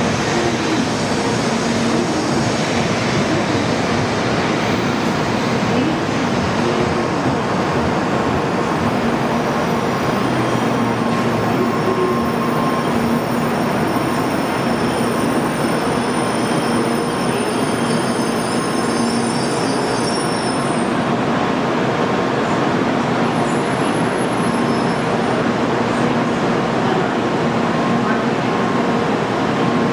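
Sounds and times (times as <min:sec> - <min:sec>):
train rushing noise: 0:00.0 - 0:29.9.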